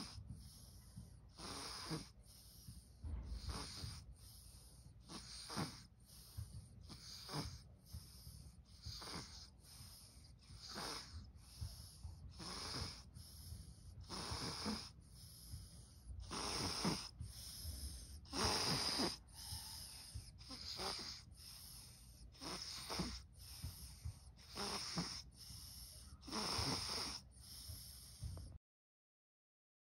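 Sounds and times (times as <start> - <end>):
infant breathing wheezily: 0.0 - 28.6.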